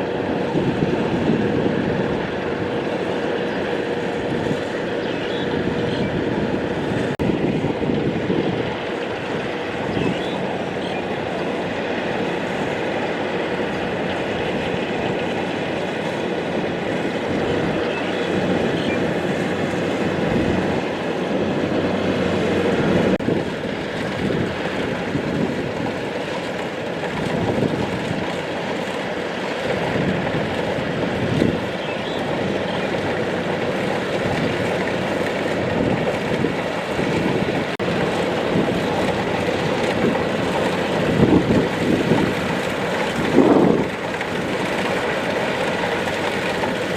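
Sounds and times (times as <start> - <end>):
combine harvester engine and threshing: 0.0 - 46.9.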